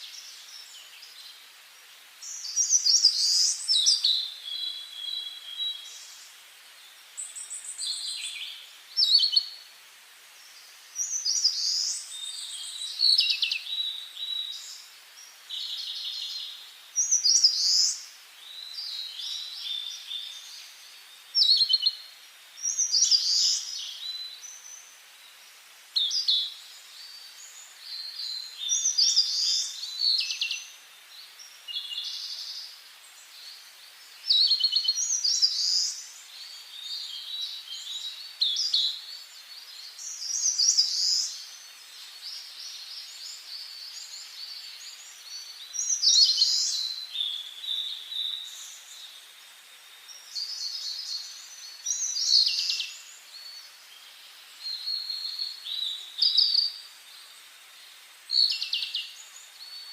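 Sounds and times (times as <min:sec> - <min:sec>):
faint outdoor hiss: 0:00.0 - 0:59.9
songbirds singing: 0:00.0 - 0:59.9.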